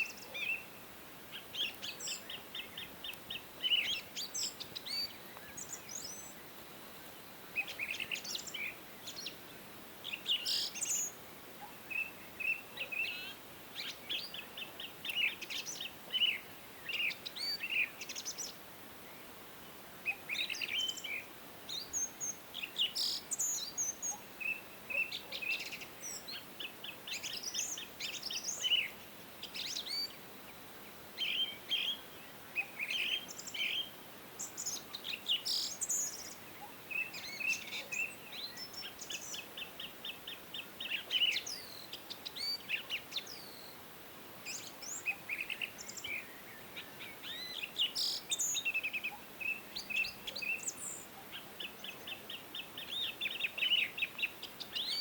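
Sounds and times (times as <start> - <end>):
faint background hiss: 0.0 - 55.0
songbirds singing and chirping: 0.0 - 55.0.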